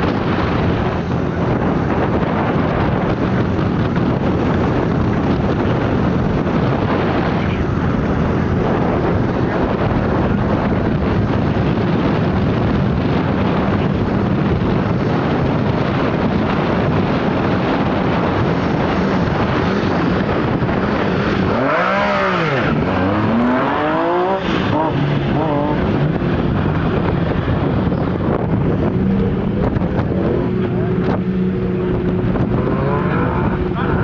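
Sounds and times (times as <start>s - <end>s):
car engines idling: 0.0s - 34.0s
engine revving: 0.0s - 34.0s.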